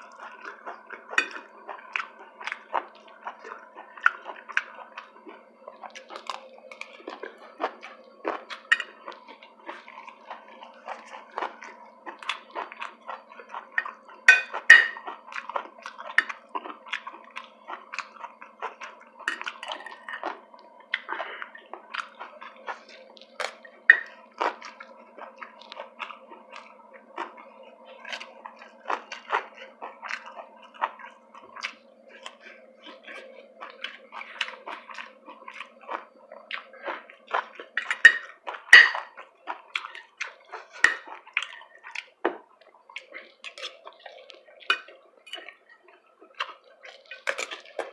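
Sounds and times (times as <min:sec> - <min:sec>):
chewing and wet mouth noises: 0:00.0 - 0:47.9
faint steady hum: 0:00.0 - 0:47.9.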